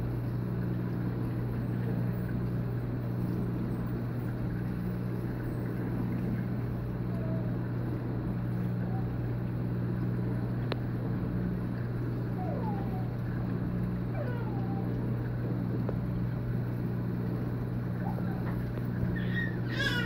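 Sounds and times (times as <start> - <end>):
aquarium pumps humming: 0.0 - 20.0
circulating water noise: 0.0 - 20.0.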